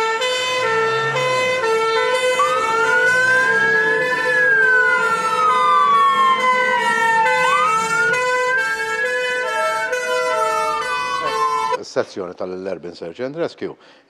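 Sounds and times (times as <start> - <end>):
two-tone hi-lo siren: 0.0 - 11.8
wailing siren: 0.0 - 11.8.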